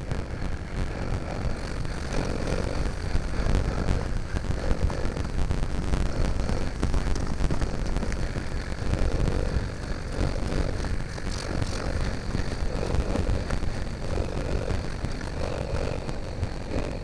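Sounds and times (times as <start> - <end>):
faint crackling clicks: 0.0 - 17.0
low rumble with hiss: 0.0 - 17.0.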